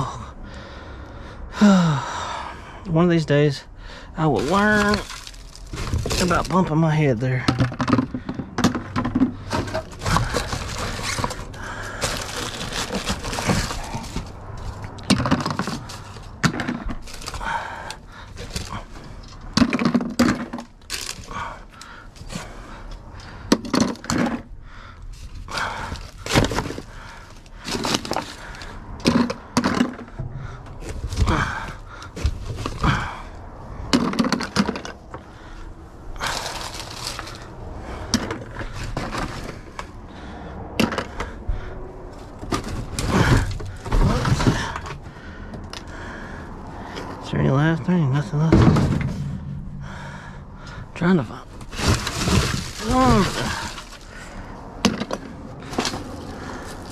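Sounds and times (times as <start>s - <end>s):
debris clattering and scraping: 4.2s - 56.9s
heavy thuds: 4.4s - 22.6s, 25.4s - 47.2s, 48.2s - 56.9s.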